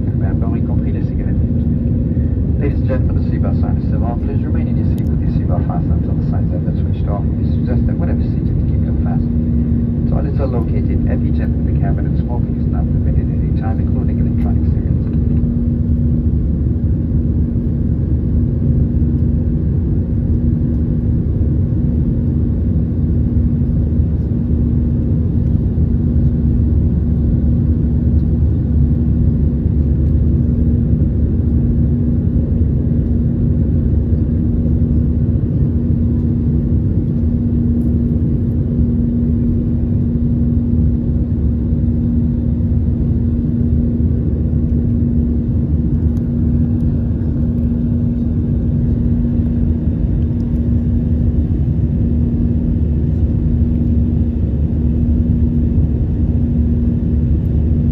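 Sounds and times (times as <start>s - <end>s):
jet engines rumbling: 0.0s - 57.9s
steady low hum: 0.0s - 57.9s.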